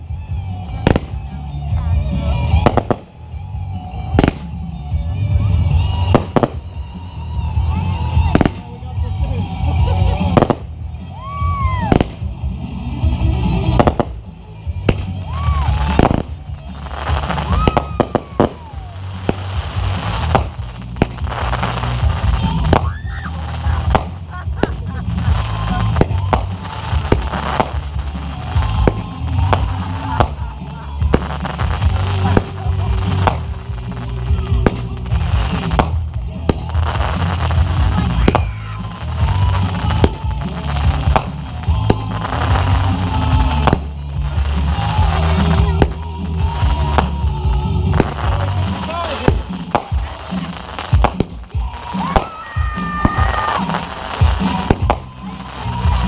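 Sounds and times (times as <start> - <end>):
fireworks bangs and crackles: 0.0 - 56.0
music with bass line: 0.0 - 56.0.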